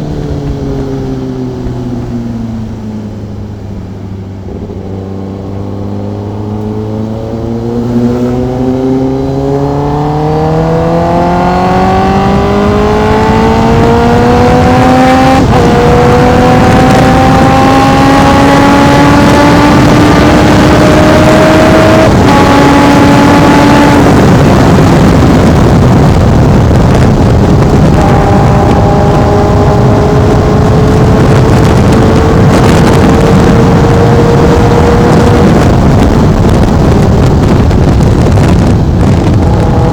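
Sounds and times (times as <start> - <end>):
gear changes: 0.0 - 39.9
motorcycle engine accelerating: 0.0 - 39.9
wind rush: 0.0 - 39.9.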